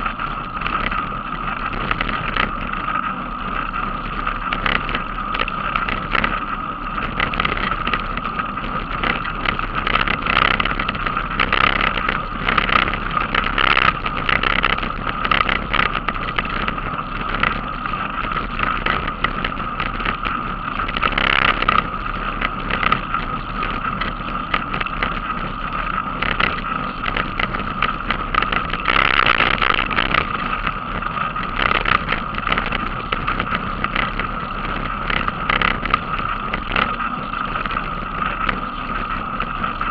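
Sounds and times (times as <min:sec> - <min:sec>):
bicycle road rattle: 0:00.0 - 0:39.9.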